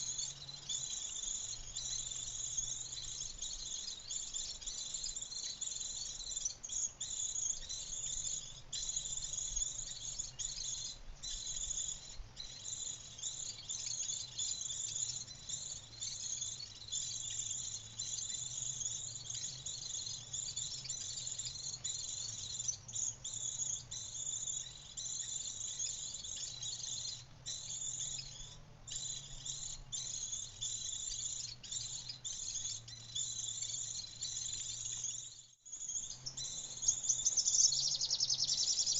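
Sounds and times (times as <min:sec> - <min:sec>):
insect chorus chirring: 0:00.0 - 0:38.9.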